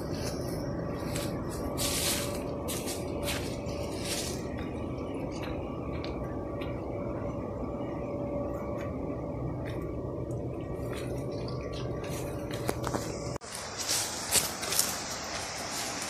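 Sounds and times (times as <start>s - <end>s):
footsteps on dirt path: 0.0s - 7.4s, 8.6s - 16.0s
steady rushing background noise: 0.0s - 16.0s.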